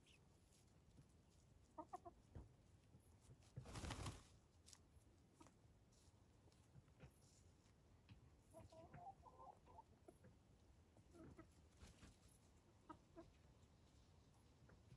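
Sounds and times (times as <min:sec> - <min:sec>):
chickens clucking softly: 0:00.0 - 0:04.0, 0:05.1 - 0:14.9.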